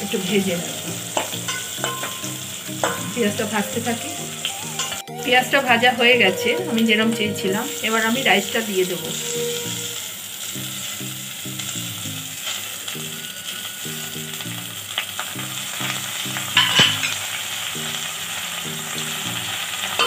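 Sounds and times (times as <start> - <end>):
rice sizzling in hot oil: 0.0 - 5.1, 7.5 - 20.0.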